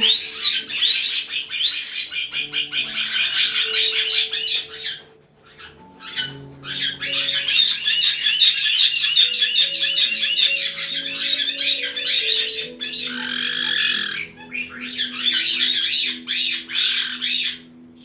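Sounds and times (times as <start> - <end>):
parrots squawking: 0.0 - 17.8.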